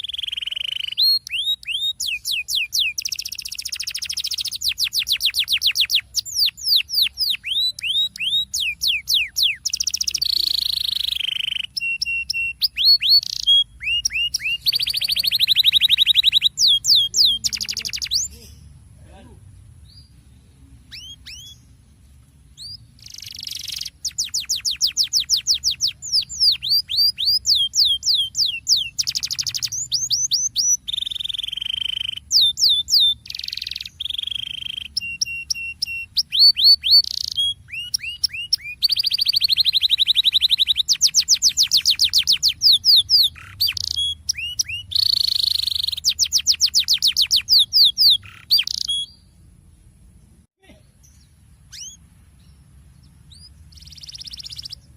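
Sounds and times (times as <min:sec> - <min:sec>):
canary singing fast trills: 0:00.0 - 0:54.9.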